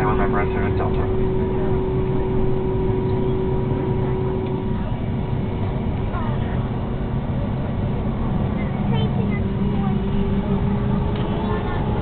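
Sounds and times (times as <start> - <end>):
aircraft cabin rumble: 0.0 - 12.0
steady hum: 0.0 - 12.0.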